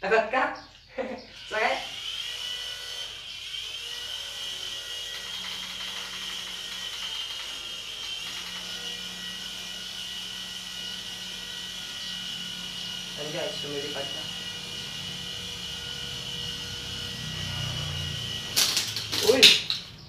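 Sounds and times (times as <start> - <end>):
toy helicopter motor whine: 0.9 - 20.0.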